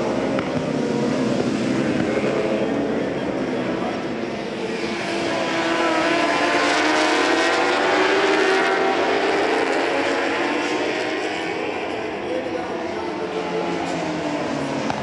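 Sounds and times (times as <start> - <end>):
racing motorcycle engines at high revs: 0.0 - 15.0.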